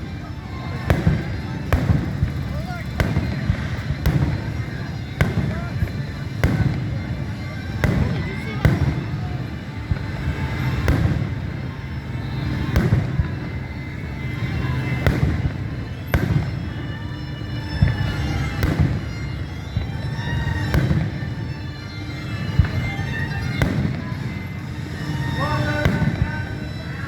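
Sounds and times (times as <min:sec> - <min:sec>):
fireworks bursting: 0:00.0 - 0:27.0
music playing: 0:00.0 - 0:27.0.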